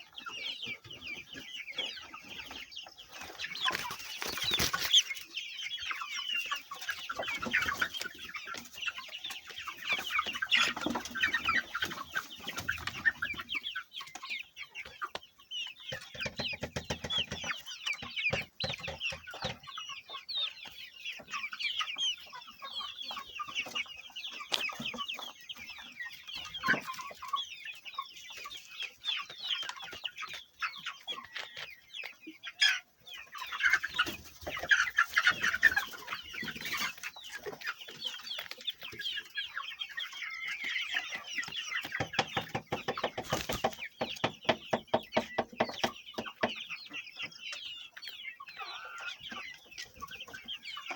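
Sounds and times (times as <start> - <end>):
chickens clucking and chirping: 0.0 - 50.9.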